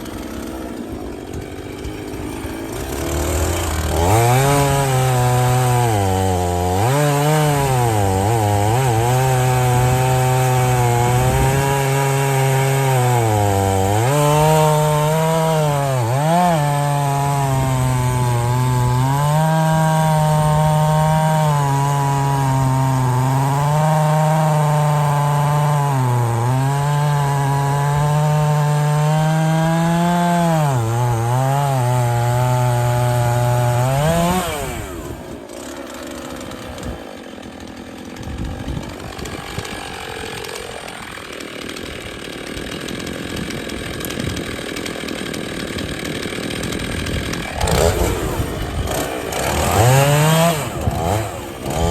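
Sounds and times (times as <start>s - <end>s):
chainsaw cutting logs: 0.0s - 51.9s.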